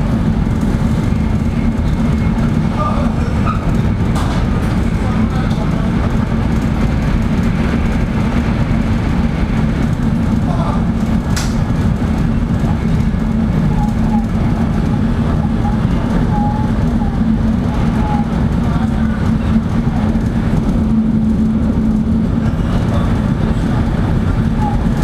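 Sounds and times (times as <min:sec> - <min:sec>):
low hum: 0:00.0 - 0:25.0
train running rumble: 0:00.0 - 0:25.0.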